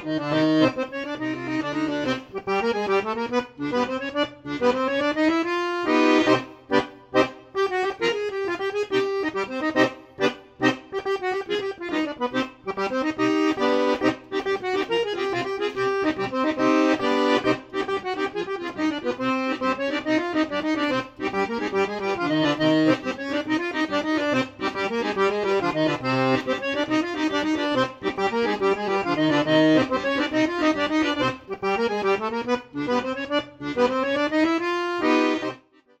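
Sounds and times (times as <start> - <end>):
accordion melody: 0.0 - 36.0.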